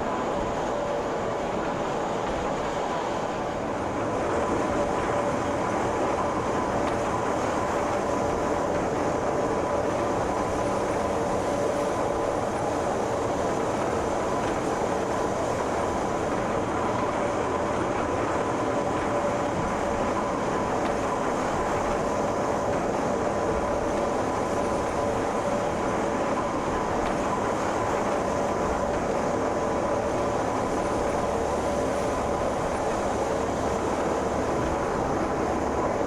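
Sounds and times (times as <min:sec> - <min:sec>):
steady whine: 0:00.0 - 0:36.0
train rumbling on rails: 0:00.0 - 0:36.0.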